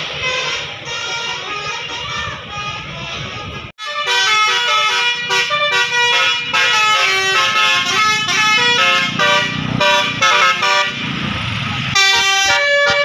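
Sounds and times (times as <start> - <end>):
bus air horn playing a tune: 0.0 - 11.0, 11.9 - 13.0.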